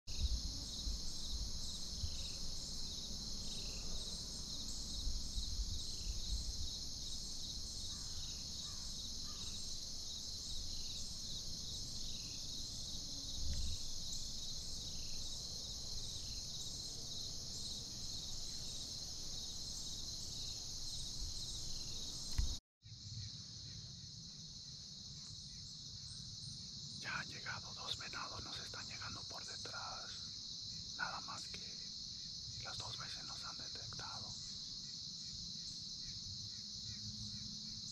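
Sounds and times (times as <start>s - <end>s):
crickets and insects chorus: 0.1s - 37.9s.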